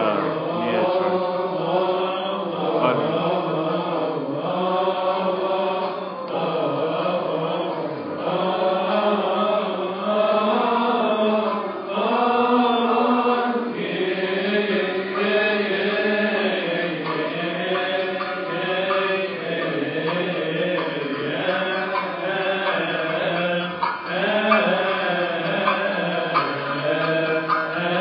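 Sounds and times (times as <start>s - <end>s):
group chanting a hymn in unison: 0.0s - 28.0s.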